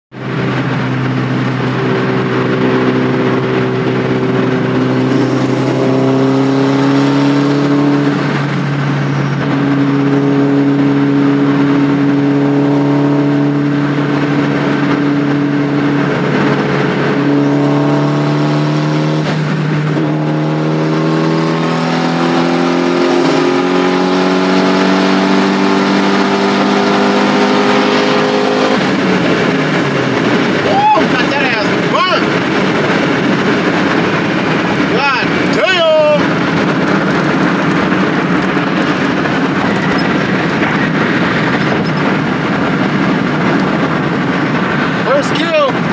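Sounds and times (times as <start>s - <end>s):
car engine droning in cabin: 0.1s - 45.9s.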